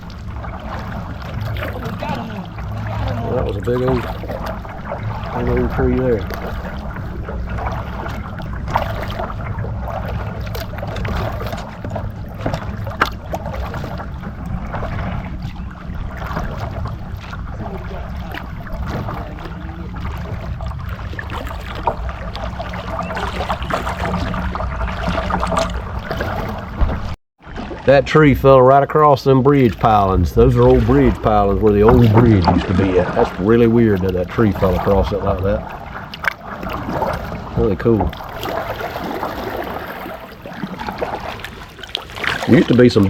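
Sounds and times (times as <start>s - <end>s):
low rumble: 0.0s - 41.5s
paddle splashes: 0.0s - 43.0s.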